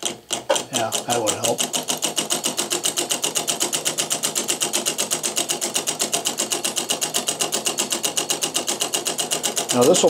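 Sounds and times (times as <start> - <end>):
electromagnet engine rapid clicking: 0.0 - 10.0.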